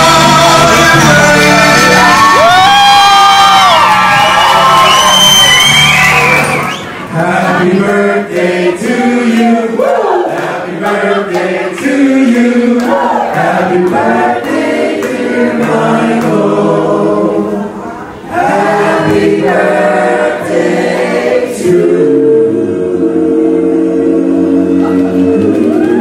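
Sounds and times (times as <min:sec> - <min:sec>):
group singing without instruments: 0:00.0 - 0:02.5, 0:07.1 - 0:26.0.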